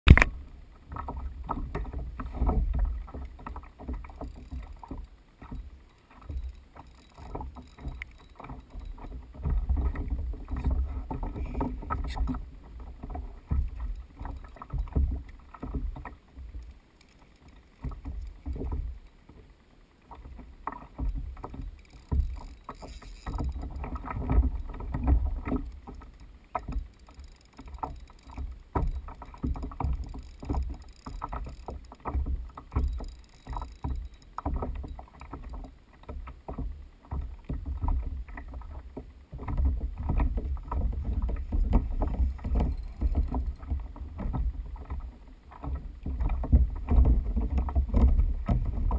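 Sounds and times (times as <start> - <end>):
knocks and thumps on kayak hull: 0.1 - 6.5, 7.2 - 16.6, 17.8 - 19.0, 20.2 - 26.9, 27.6 - 48.9.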